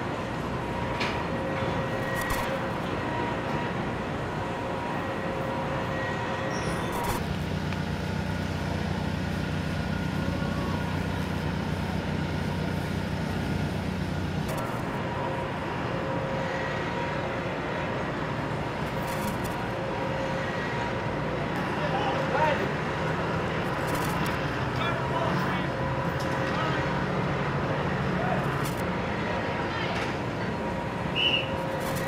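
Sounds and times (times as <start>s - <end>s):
machinery hum: 0.0s - 32.0s.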